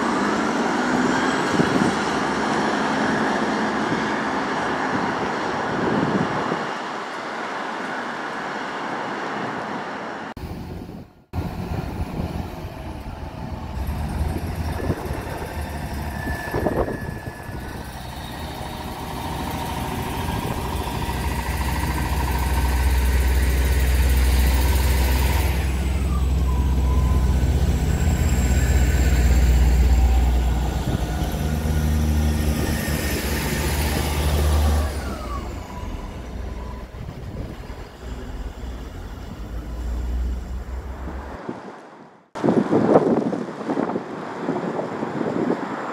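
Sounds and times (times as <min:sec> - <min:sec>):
train approaching on track: 0:00.0 - 0:41.4
diesel engines rumbling: 0:00.0 - 0:41.5.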